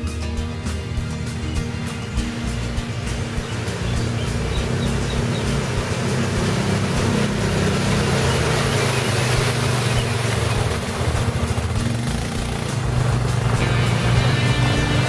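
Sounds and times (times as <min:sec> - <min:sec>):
quad bike engine running: 0:00.0 - 0:15.0
water splashing: 0:01.0 - 0:15.0.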